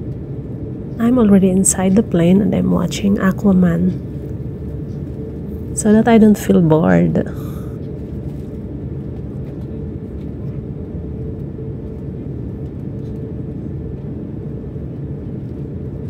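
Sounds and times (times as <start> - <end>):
airliner cabin rumble: 0.0 - 16.0
faint steady hum: 0.0 - 16.0.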